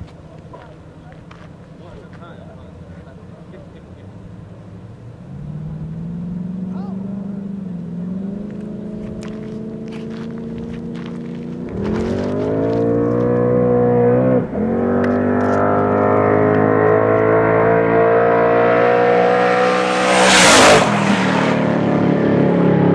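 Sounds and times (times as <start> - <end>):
cars passing with loud rush: 0.0 - 22.9
race car engines at full throttle: 0.0 - 22.9.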